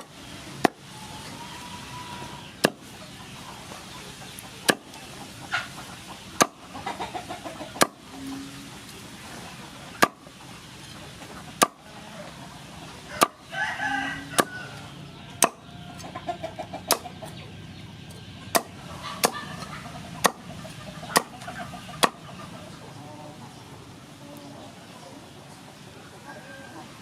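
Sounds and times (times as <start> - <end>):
chicken clucking: 0.0 - 27.0.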